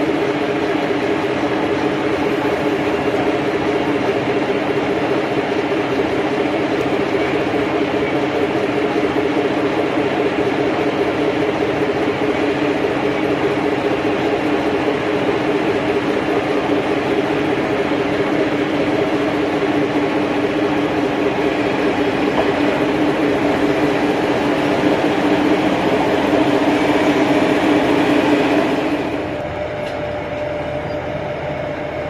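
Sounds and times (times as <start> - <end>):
diesel railcar engines idling: 0.0 - 32.0
diesel railcar rolling in: 0.0 - 32.0.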